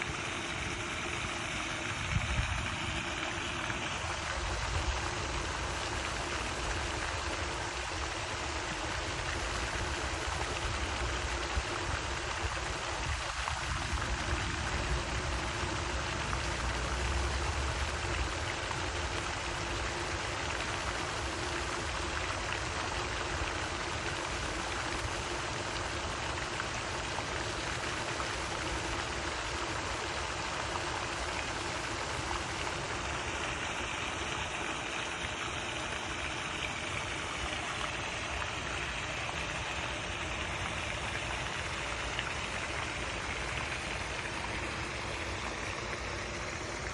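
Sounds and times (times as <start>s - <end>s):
fountain spray splashing on water: 0.0s - 46.9s.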